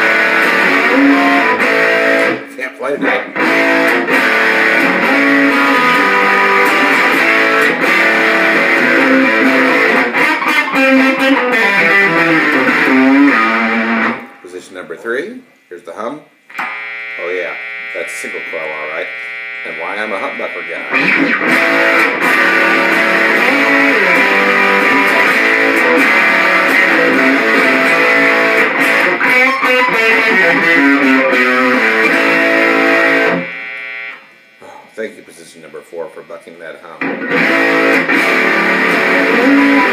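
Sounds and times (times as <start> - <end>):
distorted electric guitar riffs: 0.0 - 15.4, 16.4 - 35.1, 36.8 - 39.9.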